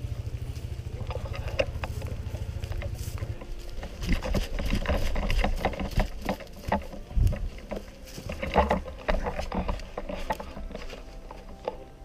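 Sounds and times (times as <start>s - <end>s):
footsteps crunching on leaves: 0.0s - 12.0s.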